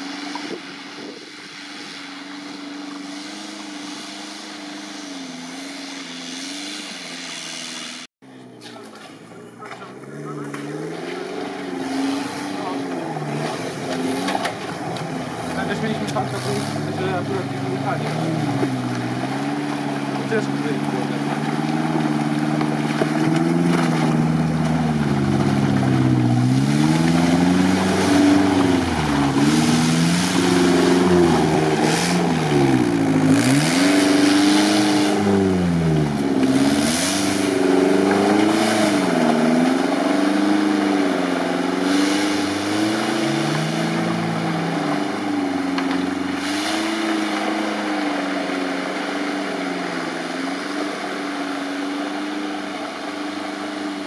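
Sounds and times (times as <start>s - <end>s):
off-road engine revving: 0.0s - 54.0s.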